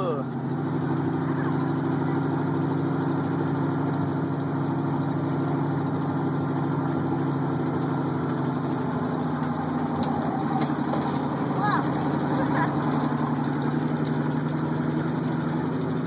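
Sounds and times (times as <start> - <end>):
truck engine running steadily: 0.0 - 16.0.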